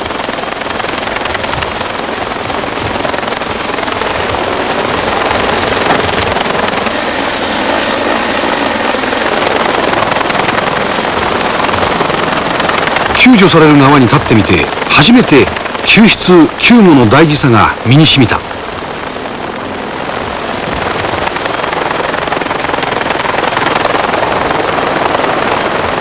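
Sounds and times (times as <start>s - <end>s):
helicopter hovering: 0.0s - 26.0s.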